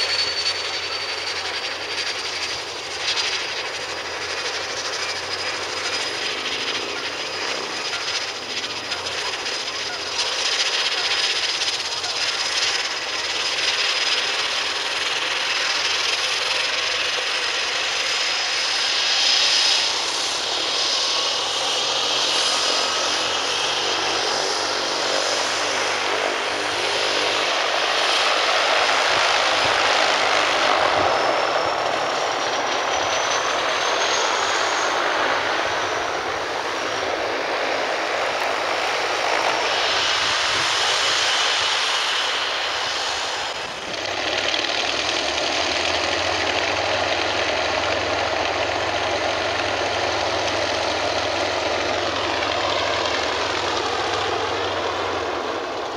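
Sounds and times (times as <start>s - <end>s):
high turbine whistle: 0.0s - 55.9s
turboprop engine running: 0.0s - 55.9s.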